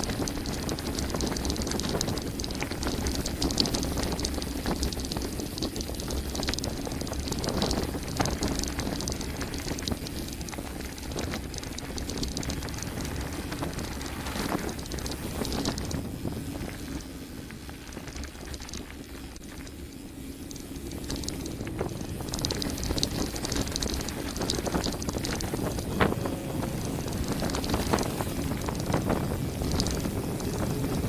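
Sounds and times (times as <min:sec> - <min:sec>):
bike rattling: 0:00.0 - 0:31.0
low rumble: 0:00.0 - 0:31.0.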